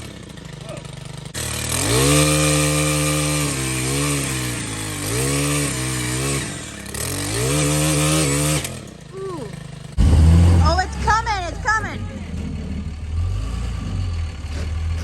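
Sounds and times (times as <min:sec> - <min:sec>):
small gas engine auger revving: 0:00.0 - 0:15.0.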